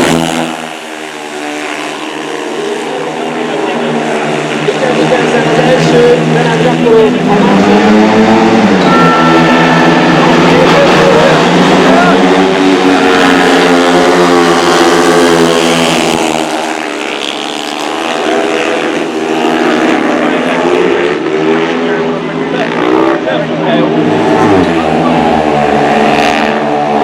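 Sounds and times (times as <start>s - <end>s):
motorcycles racing: 0.0s - 27.0s.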